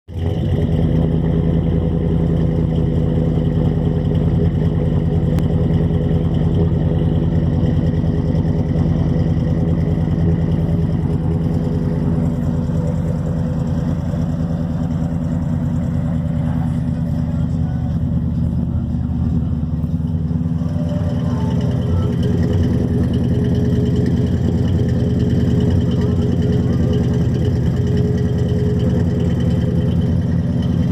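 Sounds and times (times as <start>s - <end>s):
pickup truck engine idling: 0.1s - 30.9s.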